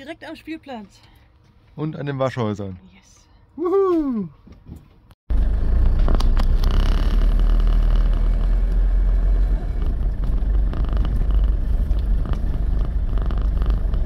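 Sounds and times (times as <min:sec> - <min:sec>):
engine and road noise rumble: 0:00.0 - 0:14.0.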